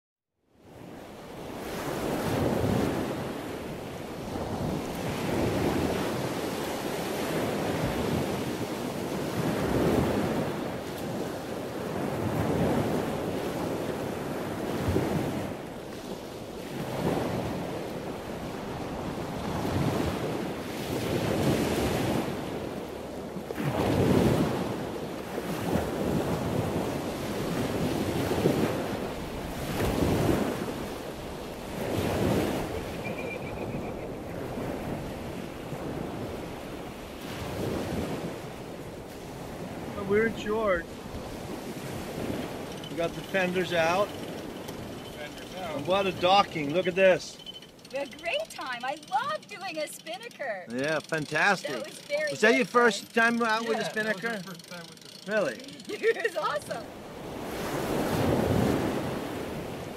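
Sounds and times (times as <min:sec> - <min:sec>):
wind buffeting microphone: 0:00.8 - 0:50.4, 0:55.8 - 0:59.9.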